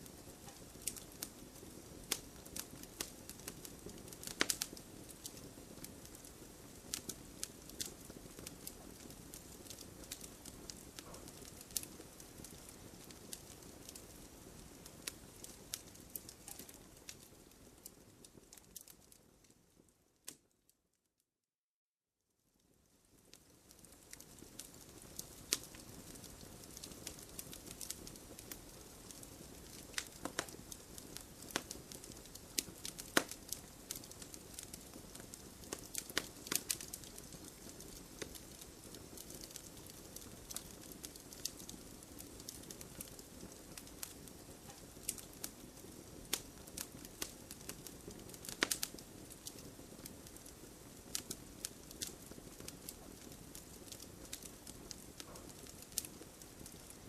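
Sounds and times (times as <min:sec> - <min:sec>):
wood fire crackling: 0:00.0 - 0:20.6, 0:22.6 - 0:57.0.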